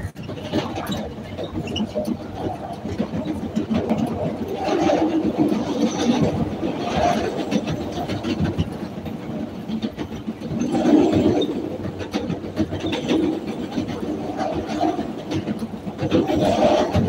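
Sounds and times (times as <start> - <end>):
train rumble: 0.0 - 17.0
wheels clicking over rail joints: 0.0 - 17.0.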